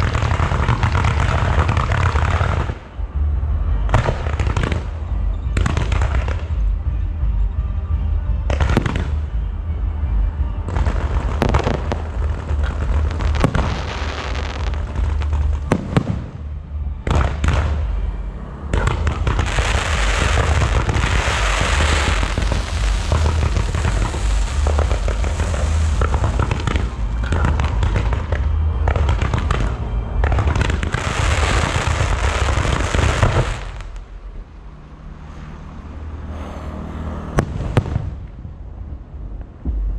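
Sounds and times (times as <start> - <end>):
fireworks bangs and crackling: 0.0 - 7.2, 8.4 - 9.6, 10.4 - 34.2, 37.4 - 38.6.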